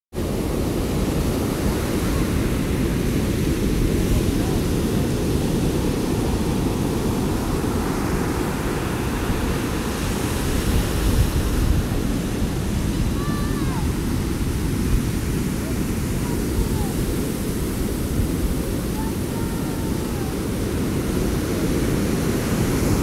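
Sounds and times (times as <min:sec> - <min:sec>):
wind buffeting microphone: 0:00.2 - 0:23.0.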